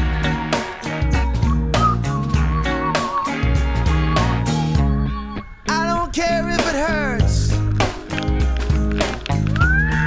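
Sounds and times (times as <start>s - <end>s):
reggae music with bass line: 0.0s - 10.0s.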